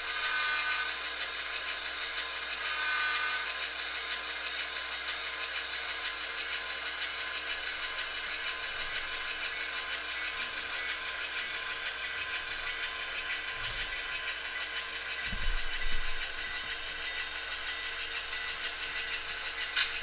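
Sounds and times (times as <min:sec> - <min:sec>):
model locomotive diesel engine sound: 0:00.0 - 0:20.0.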